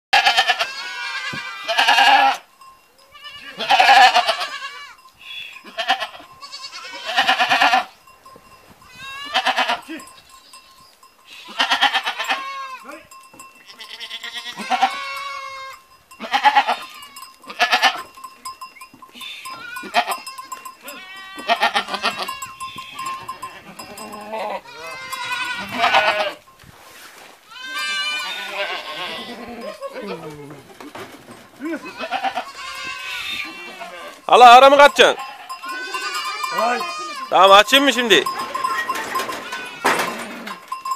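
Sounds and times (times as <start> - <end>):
goats bleating: 0.2 - 8.0, 8.8 - 26.5, 27.4 - 31.0, 31.6 - 40.8.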